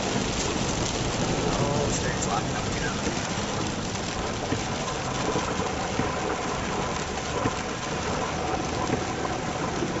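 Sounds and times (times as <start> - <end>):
heavy rain on a car: 0.0 - 10.0
tyres running through water: 0.0 - 10.0.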